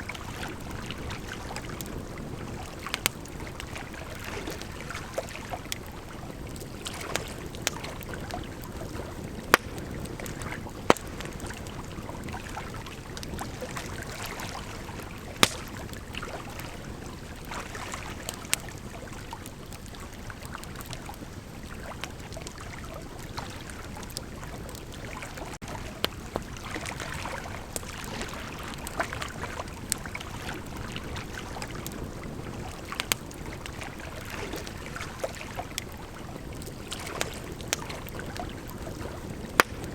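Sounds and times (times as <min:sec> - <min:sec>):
rush of flames: 0:00.0 - 0:17.5, 0:22.4 - 0:39.9
fire crackling and popping: 0:00.0 - 0:39.9.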